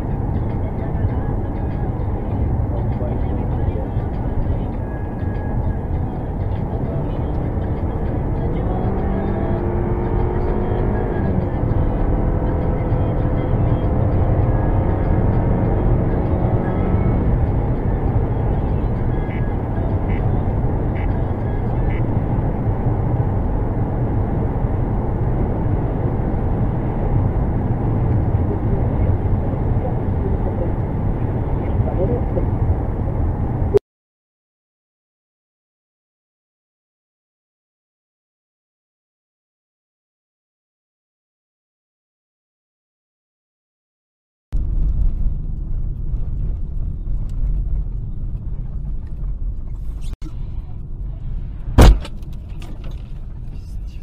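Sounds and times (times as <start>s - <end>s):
road and engine noise inside car: 0.0s - 33.8s, 44.6s - 54.0s.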